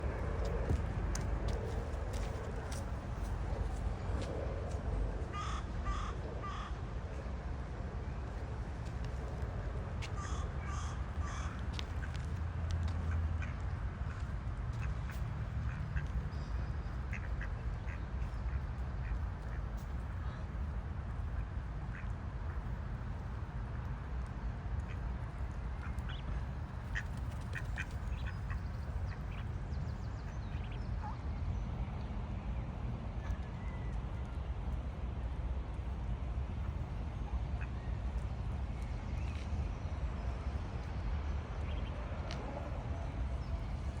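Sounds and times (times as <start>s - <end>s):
steady low rumble: 0.0s - 44.0s.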